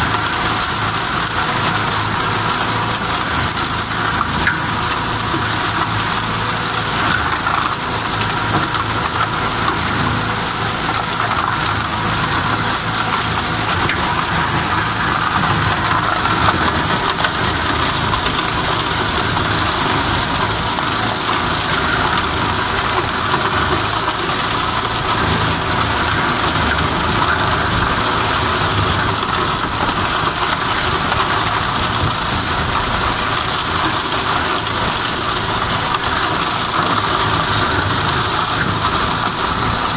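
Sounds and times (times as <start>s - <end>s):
flail mower chopping brush: 0.0s - 39.9s
tractor running under load: 0.0s - 39.9s.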